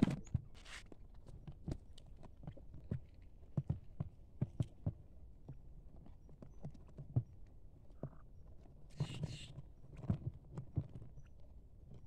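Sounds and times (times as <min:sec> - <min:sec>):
quail pecking and stepping: 0:00.0 - 0:12.0.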